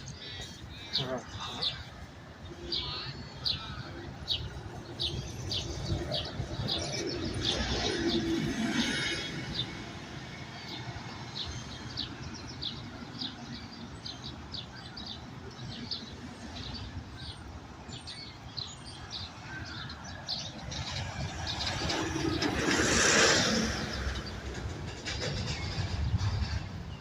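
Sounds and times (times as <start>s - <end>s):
distant city traffic: 0.0s - 27.0s.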